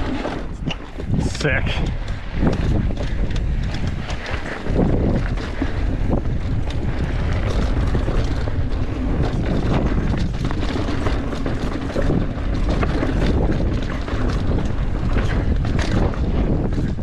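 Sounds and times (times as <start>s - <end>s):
bike clicks and rattles: 0.0s - 17.0s
tyres rumbling over dirt and rock: 0.0s - 17.0s
wind rushing over microphone: 0.0s - 17.0s.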